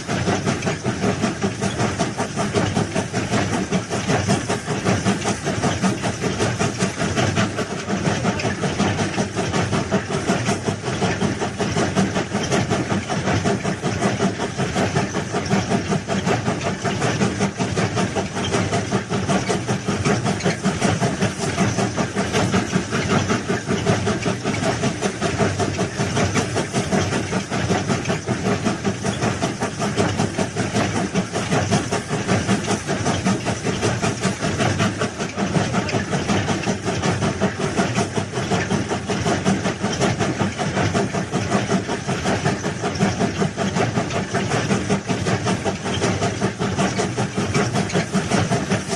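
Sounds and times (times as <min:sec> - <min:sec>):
large engine running: 0:00.0 - 0:48.9.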